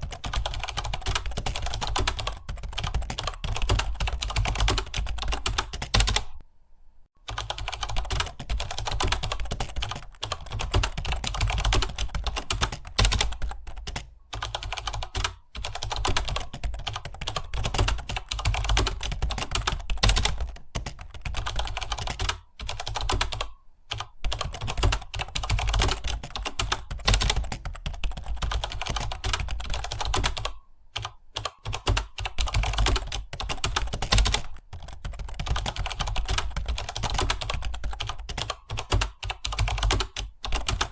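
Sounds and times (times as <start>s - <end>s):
fast typing on keyboard: 0.0s - 6.4s, 7.2s - 40.9s.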